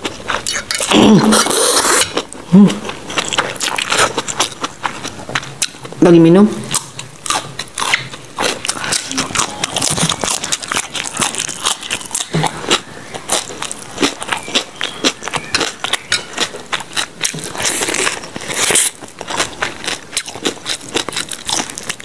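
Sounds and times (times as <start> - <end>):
chewing crunches: 0.0 - 6.0, 6.7 - 22.0.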